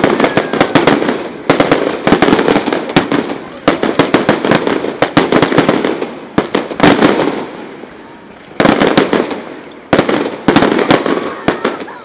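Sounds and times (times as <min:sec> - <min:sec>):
fireworks crackling bangs: 0:00.0 - 0:12.0.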